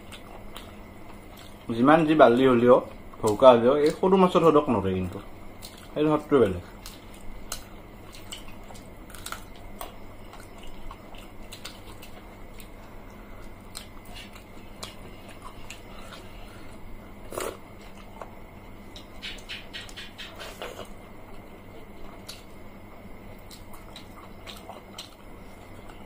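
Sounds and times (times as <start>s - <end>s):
wet chewing mouth sounds: 0.0s - 1.7s, 2.4s - 26.0s.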